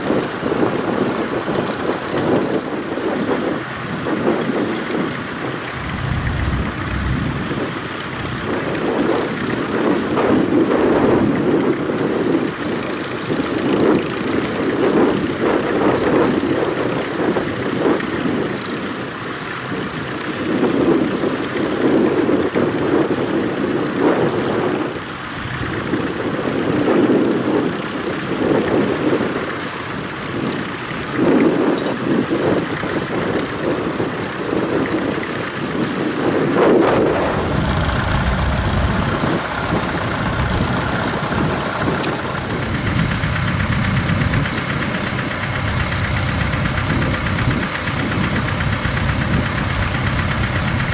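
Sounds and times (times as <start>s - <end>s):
tractor engine droning: 0.0s - 20.4s, 22.7s - 50.9s.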